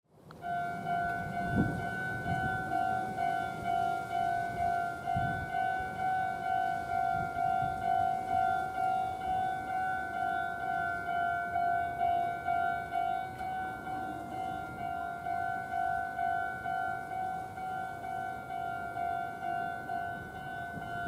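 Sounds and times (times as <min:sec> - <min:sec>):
level crossing bell clanging: 0:00.4 - 0:21.0.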